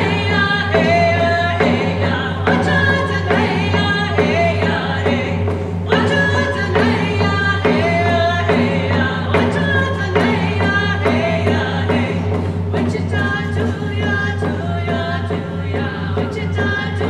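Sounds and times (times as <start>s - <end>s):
hand drums beating: 0.0s - 17.0s
women singing together: 0.0s - 17.0s.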